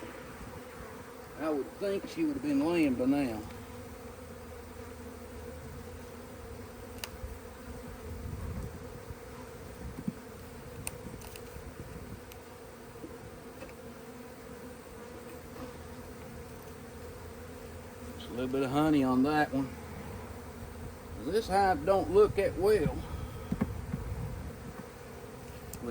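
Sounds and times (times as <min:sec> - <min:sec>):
bees buzzing: 0:00.0 - 0:25.9.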